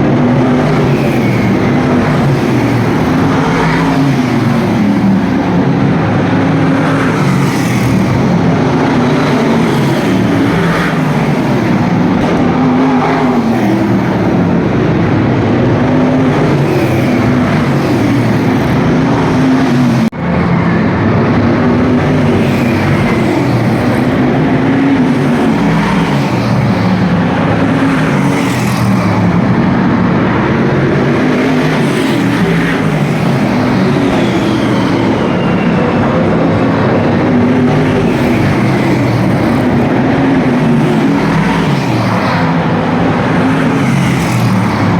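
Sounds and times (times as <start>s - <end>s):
race car engines revving: 0.0s - 44.9s.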